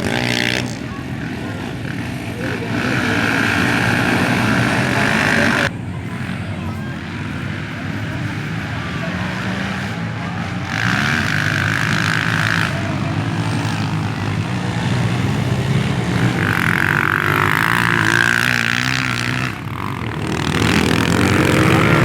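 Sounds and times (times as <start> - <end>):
racing motorcycle engines revving: 0.0 - 22.0.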